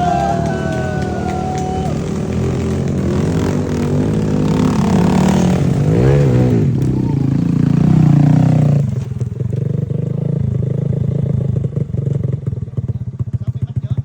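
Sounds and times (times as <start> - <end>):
off-road engine revving: 0.0 - 13.1.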